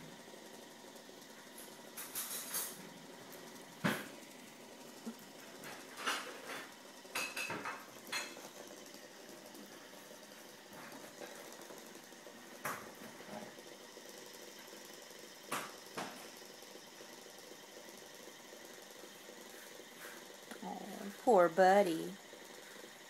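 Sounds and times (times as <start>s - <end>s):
small motor whirring: 0.0s - 23.0s.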